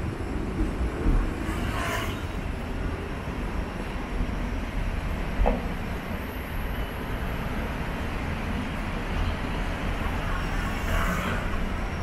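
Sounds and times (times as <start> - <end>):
tram rumble and rattle: 0.0 - 12.0.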